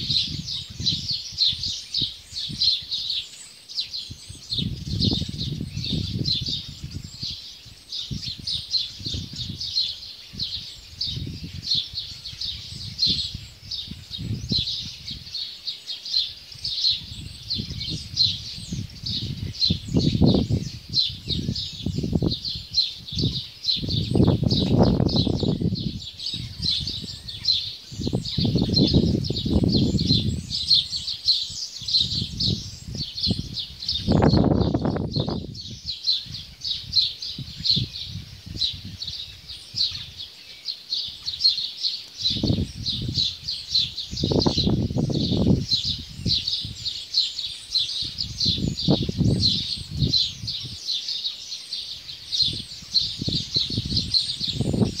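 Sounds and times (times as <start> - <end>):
flock of small birds chirping: 0.0 - 55.0.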